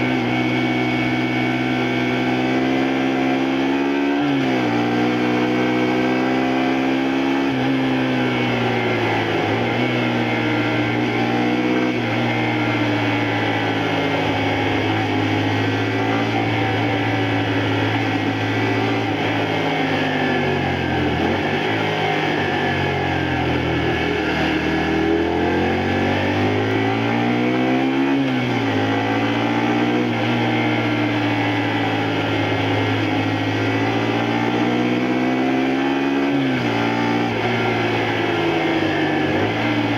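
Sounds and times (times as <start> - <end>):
motorcycle engine on road: 0.0 - 39.9.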